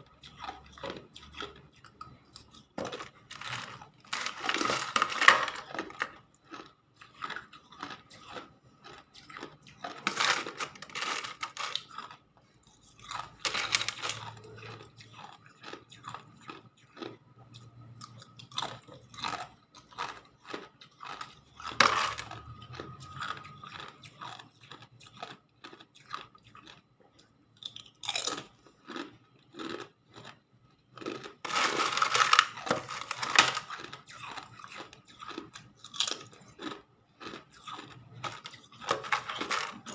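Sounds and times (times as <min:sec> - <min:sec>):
ice crunching in mouth: 0:00.2 - 0:26.8, 0:31.0 - 0:39.9.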